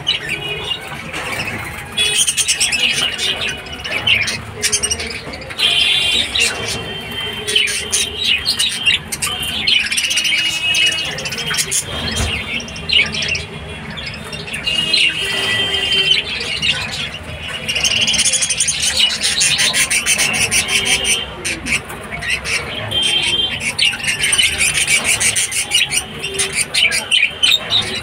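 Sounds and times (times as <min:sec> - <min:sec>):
budgerigars chattering: 0:00.0 - 0:28.0.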